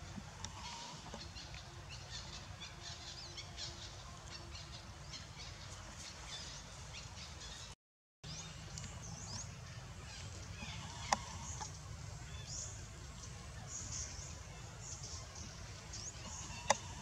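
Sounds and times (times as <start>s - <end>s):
birds chirping: 0.0s - 17.0s
low outdoor background noise: 0.0s - 17.0s.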